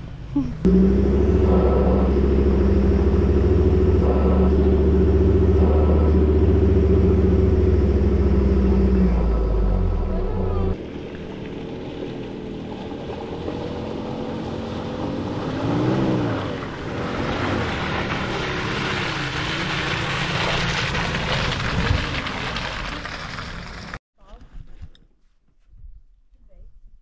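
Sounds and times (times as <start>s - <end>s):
vehicle engine revving: 0.6s - 24.0s.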